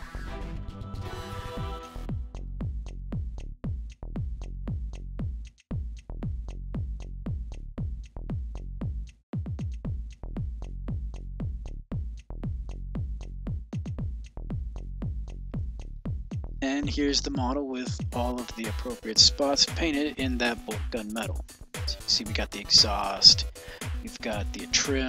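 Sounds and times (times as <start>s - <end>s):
electronic music with kick drum: 0.0s - 25.0s.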